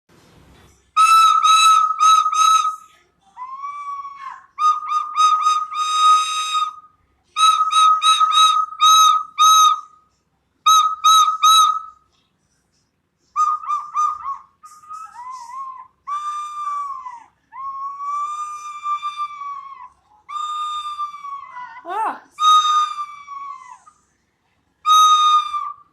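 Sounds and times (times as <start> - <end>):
parrot whistling: 1.0 - 12.0, 13.2 - 24.0, 24.8 - 25.9.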